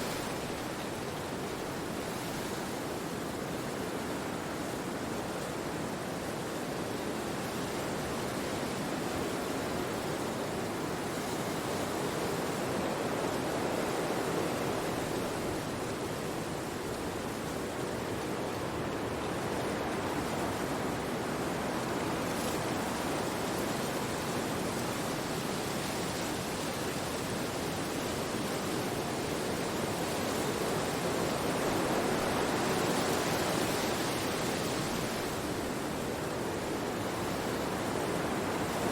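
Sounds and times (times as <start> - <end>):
wind rushing through trees: 0.0 - 38.9.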